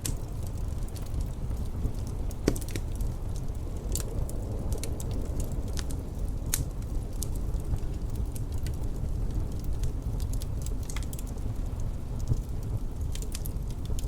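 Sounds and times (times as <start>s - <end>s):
low wind rumble: 0.0s - 14.0s
wood fire crackling and popping: 0.0s - 14.0s.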